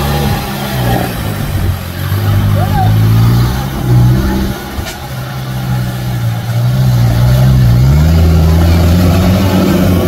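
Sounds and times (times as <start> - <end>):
jeep engine running and revving: 0.0 - 10.0.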